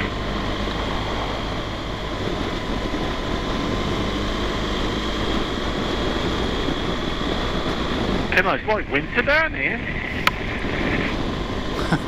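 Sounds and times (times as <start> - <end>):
motorcycle engine running: 0.0 - 12.0
wind rush: 0.0 - 12.0.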